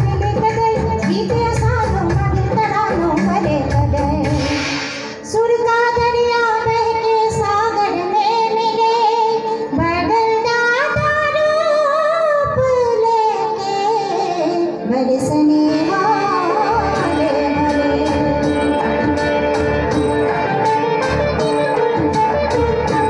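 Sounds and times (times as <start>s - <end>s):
woman singing into microphone: 0.0s - 19.3s.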